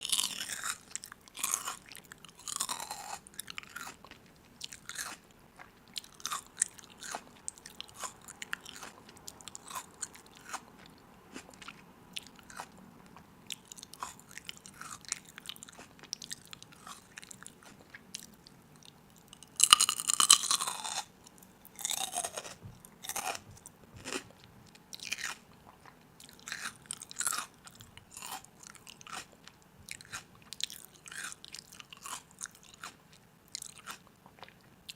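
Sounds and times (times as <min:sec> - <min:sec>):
crunchy food being chewed: 0:00.0 - 0:34.9.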